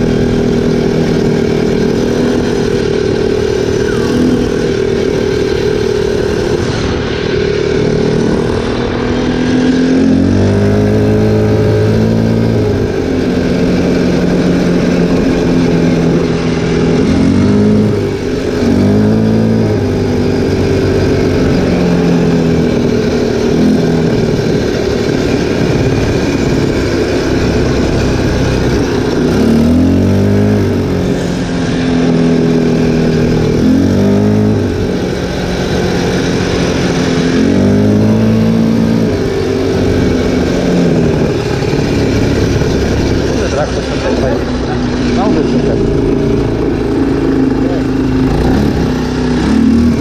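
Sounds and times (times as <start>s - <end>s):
atv engine revving: 0.0s - 50.0s
steady rushing noise: 0.0s - 50.0s.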